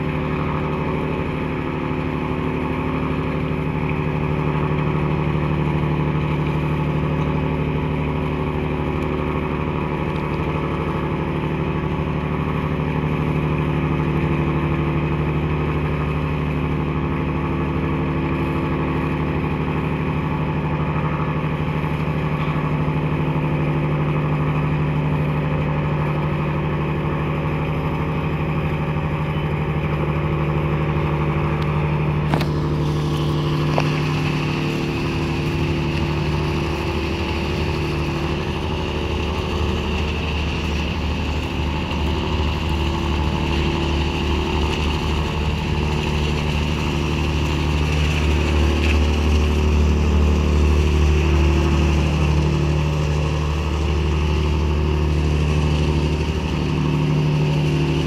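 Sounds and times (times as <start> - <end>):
ship diesel engines droning: 0.0 - 58.0.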